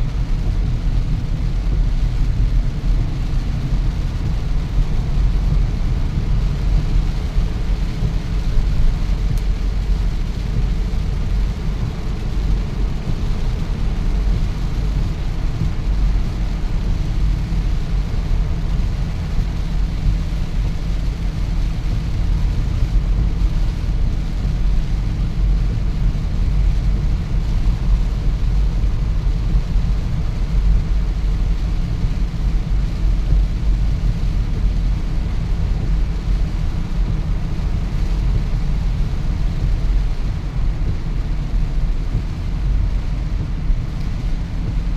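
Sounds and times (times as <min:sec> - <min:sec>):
low rumble: 0:00.0 - 0:44.9
steady rain: 0:00.0 - 0:44.9.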